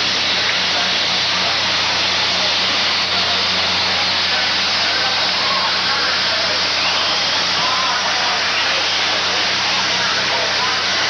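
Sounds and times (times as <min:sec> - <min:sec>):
faint voices: 0:00.0 - 0:11.0
rushing noise of building fire: 0:00.0 - 0:11.0.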